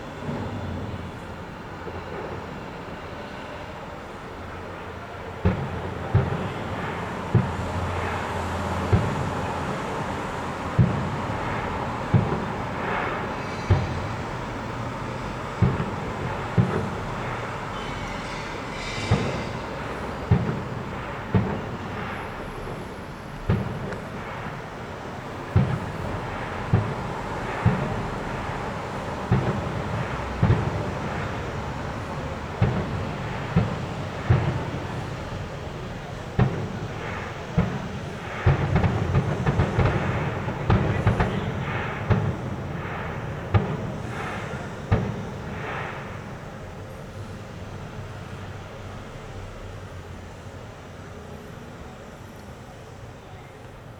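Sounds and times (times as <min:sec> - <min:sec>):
firework shells booming: 0:00.0 - 0:49.8
firework crackle and hiss: 0:00.0 - 0:53.9.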